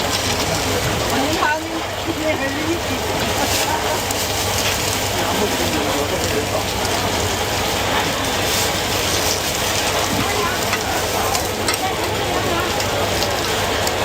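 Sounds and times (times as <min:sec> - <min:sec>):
faint voices: 0:00.0 - 0:14.0
food stall hissing: 0:00.0 - 0:14.0.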